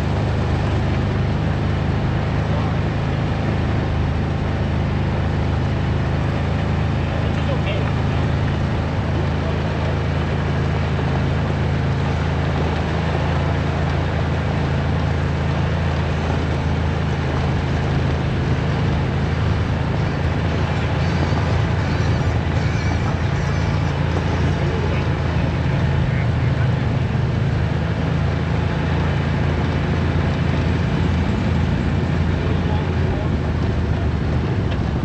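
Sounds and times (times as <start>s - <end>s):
atv engine running: 0.0s - 35.0s.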